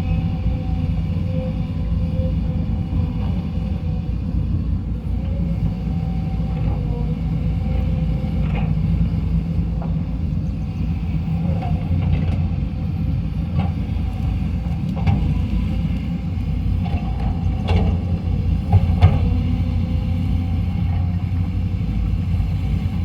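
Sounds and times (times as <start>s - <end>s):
excavator diesel engine rumbling: 0.0s - 23.0s.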